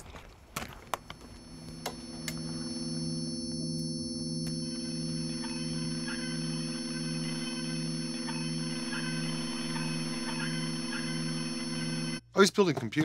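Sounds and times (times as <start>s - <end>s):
held higher sine tones: 1.0s - 12.2s
pulsing low sine tone: 1.1s - 12.2s.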